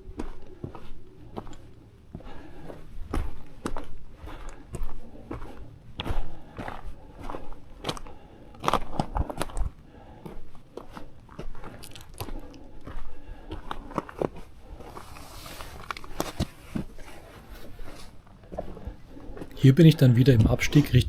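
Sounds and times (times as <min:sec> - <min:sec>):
footsteps crunching on gravel: 0:00.0 - 0:21.0.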